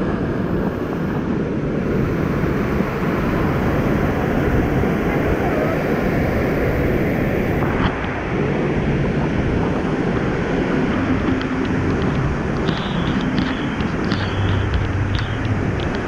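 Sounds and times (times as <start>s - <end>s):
waterfall roaring: 0.0s - 16.0s
wind buffeting microphone: 0.0s - 16.0s.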